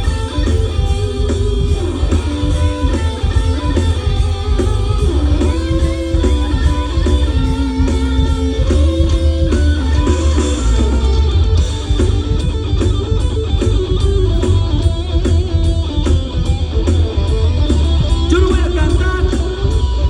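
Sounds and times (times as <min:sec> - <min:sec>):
bass guitar: 0:00.0 - 0:20.0
drums: 0:00.0 - 0:20.0
electric guitar melody: 0:00.0 - 0:20.0.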